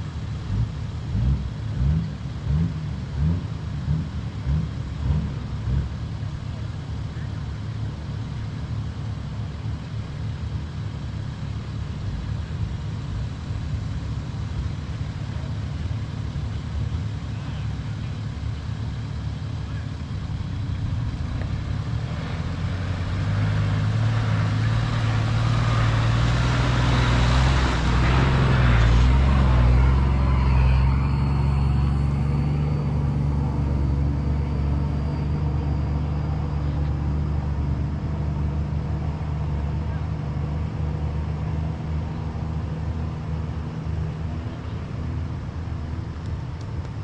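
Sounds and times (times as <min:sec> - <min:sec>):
vehicle engines humming: 0:00.0 - 0:47.0.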